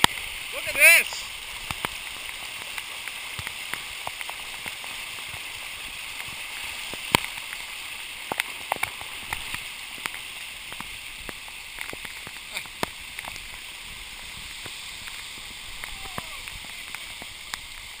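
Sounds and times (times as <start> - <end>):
heavy rain: 0.0 - 18.0
water rushing along gutter: 0.0 - 18.0.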